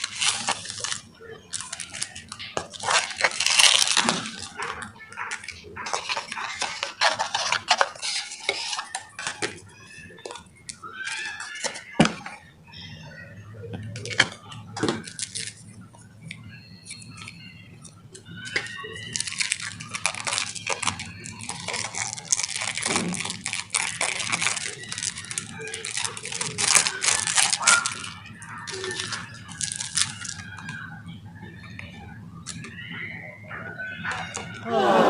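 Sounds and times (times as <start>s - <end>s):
packaging rustling and clicking: 0.0s - 12.5s, 13.8s - 30.9s, 31.6s - 32.9s, 33.5s - 34.6s
faint voices: 0.0s - 35.0s.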